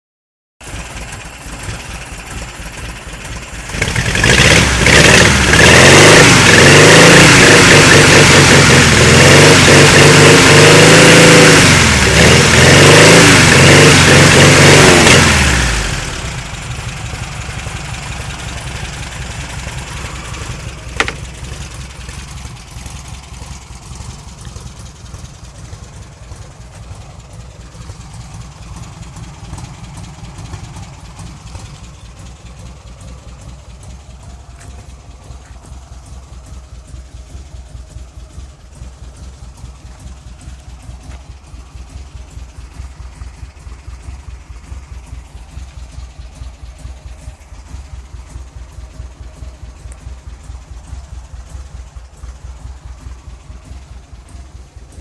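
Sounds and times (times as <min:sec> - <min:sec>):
car engine idling and revving: 0:00.6 - 0:55.0.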